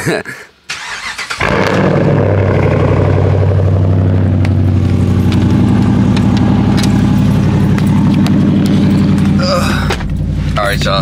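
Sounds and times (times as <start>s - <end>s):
car engine idling: 0.8s - 11.0s.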